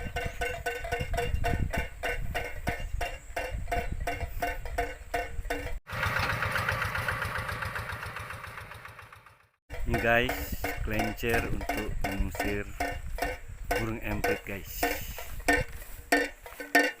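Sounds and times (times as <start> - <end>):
windmill bird scarer clacking: 0.0 - 17.0.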